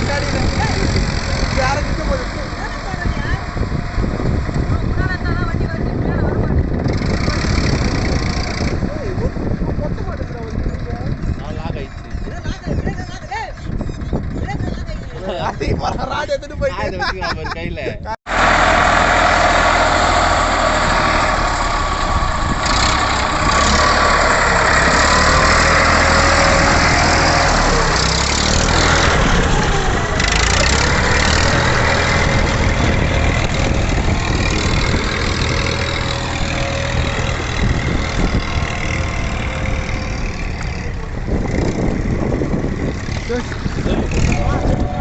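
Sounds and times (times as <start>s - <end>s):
tractor diesel engine running: 0.0s - 16.9s, 18.3s - 45.0s.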